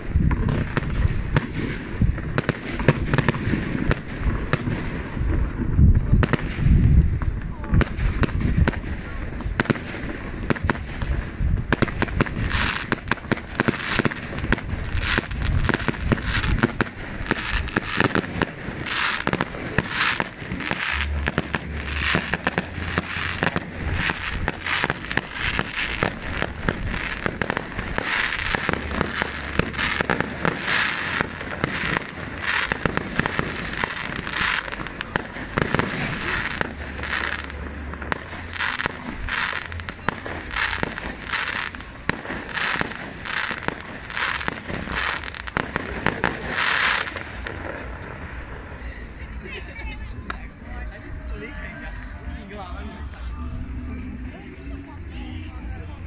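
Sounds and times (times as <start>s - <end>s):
fireworks bangs and crackling: 0.0s - 51.6s.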